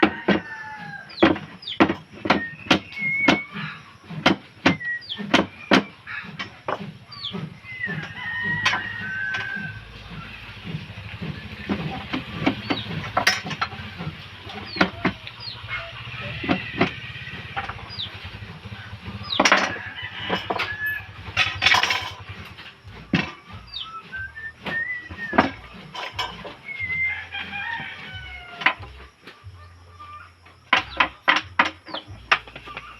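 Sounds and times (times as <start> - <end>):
chickens clucking: 0.0 - 32.9
low steady hum: 0.0 - 32.9.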